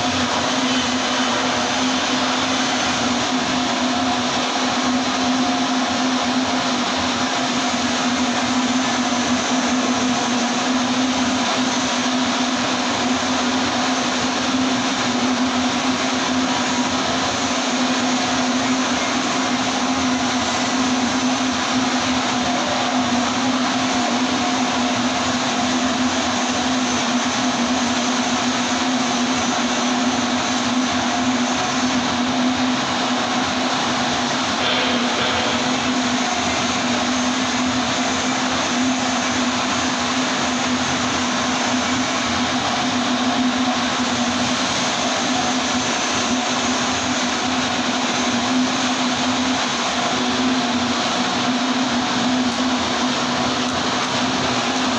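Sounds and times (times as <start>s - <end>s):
welding arc buzzing hum: 0.0s - 54.9s.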